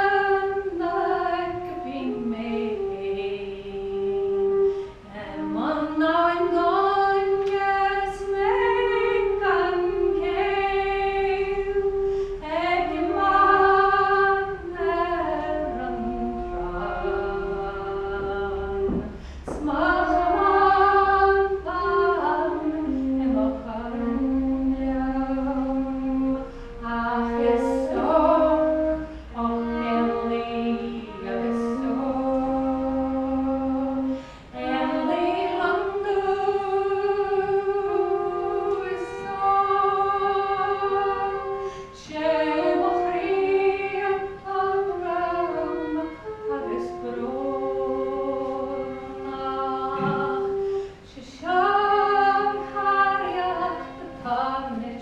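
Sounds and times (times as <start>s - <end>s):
flute playing: 0.0s - 55.0s
woman singing slow song: 0.0s - 55.0s.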